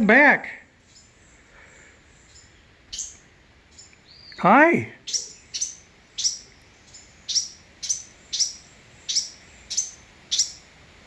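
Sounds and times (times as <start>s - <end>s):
young bird chirping: 0.8s - 4.4s, 5.0s - 10.7s.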